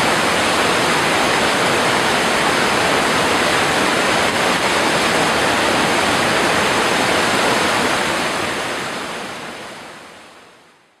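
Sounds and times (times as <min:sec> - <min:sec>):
waterfall splashing onto rocks: 0:00.0 - 0:09.0.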